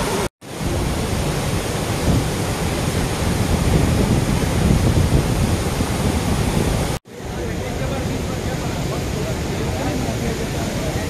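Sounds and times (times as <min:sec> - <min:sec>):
waterfall crashing over rocks: 0:00.0 - 0:11.0.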